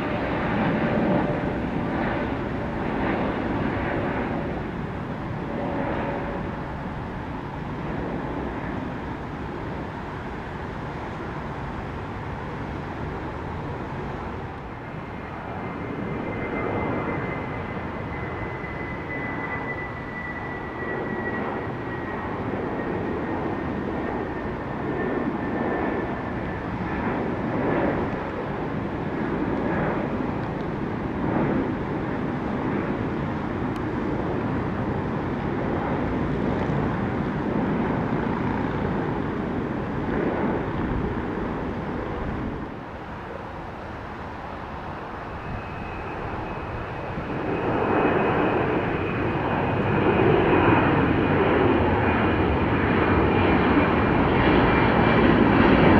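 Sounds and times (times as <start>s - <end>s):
high engine whine: 0.0s - 55.9s
jet engines roaring: 0.0s - 55.9s.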